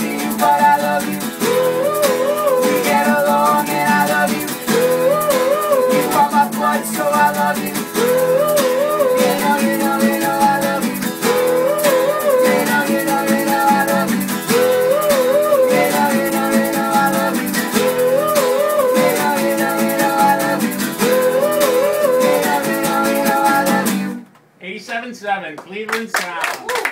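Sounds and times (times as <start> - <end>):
strummed acoustic guitars: 0.0 - 24.2
wordless melody: 0.0 - 24.2.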